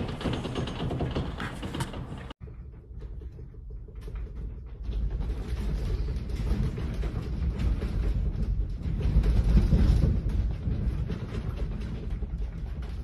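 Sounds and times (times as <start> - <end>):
objects rattling and creaking: 0.0 - 13.0.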